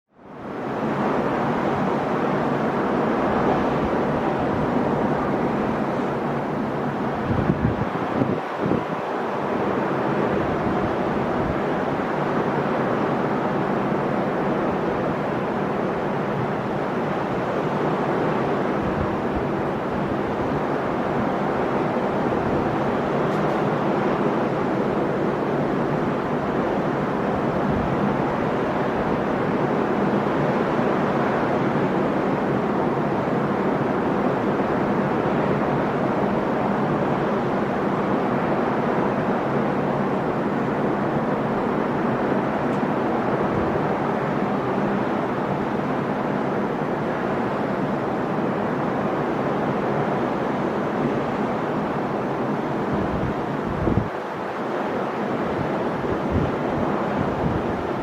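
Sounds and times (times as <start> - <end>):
waves breaking on shore: 0.3 - 58.0.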